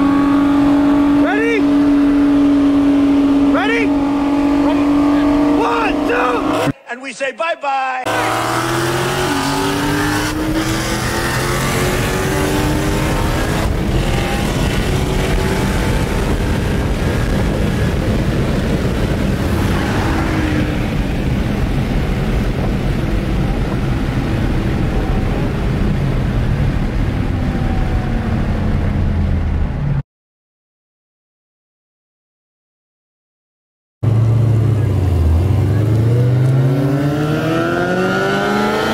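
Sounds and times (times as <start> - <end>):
car engine accelerating hard: 0.0 - 6.7, 8.1 - 30.0, 34.0 - 38.9.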